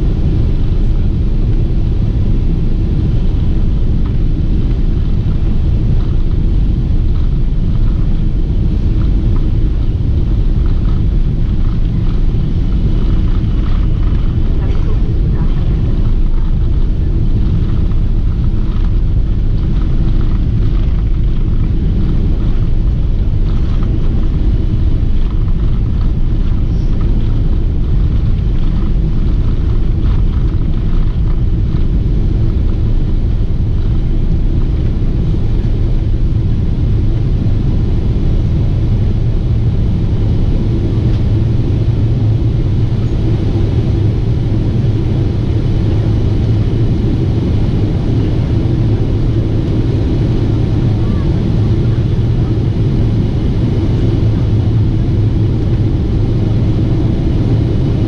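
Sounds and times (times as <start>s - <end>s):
airliner engine rumble in flight: 0.0s - 58.0s.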